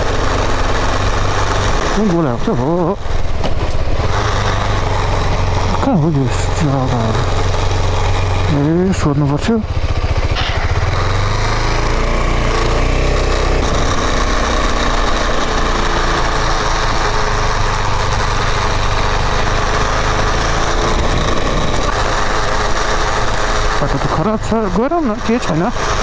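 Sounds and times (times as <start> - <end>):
motorcycle engine rumbling: 0.0 - 26.0
road noise: 0.0 - 26.0.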